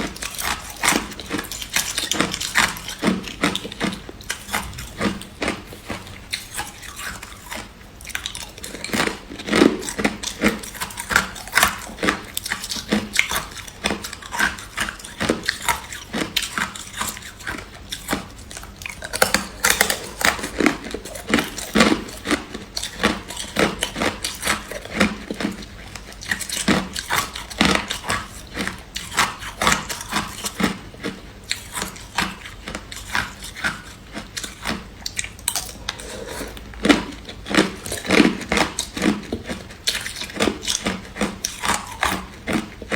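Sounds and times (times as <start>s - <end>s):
person chewing ice crunching: 0.0s - 42.9s.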